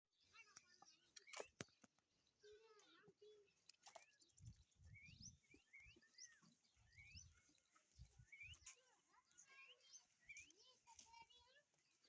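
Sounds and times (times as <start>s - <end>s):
bird chirps: 0.2s - 12.0s.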